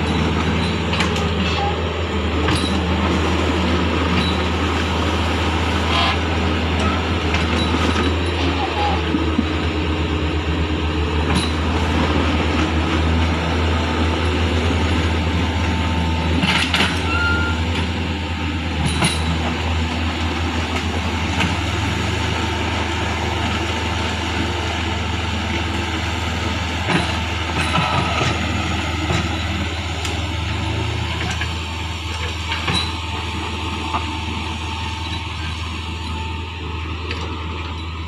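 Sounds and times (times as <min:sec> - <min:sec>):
diesel engines running under load: 0:00.0 - 0:38.0.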